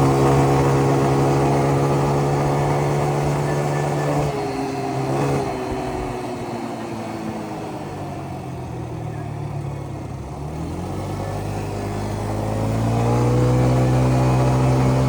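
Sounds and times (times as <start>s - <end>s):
small atv engine revving: 0.0s - 15.0s.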